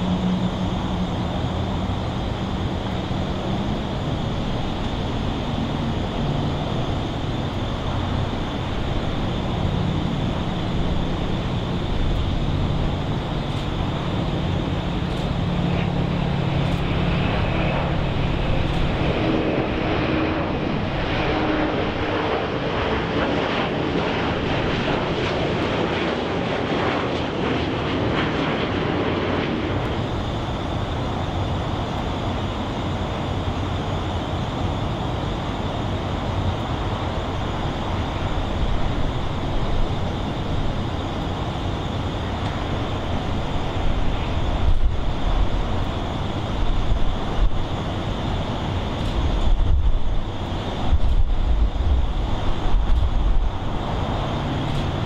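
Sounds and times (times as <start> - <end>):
jet engines roaring at takeoff: 0.0 - 55.0.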